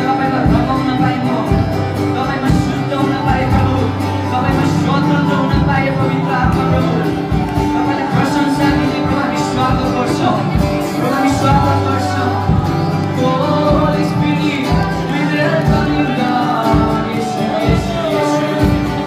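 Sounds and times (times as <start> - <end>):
acoustic guitar: 0.0 - 19.0
people singing through microphones: 0.0 - 19.0
sustained bass line: 0.0 - 19.0.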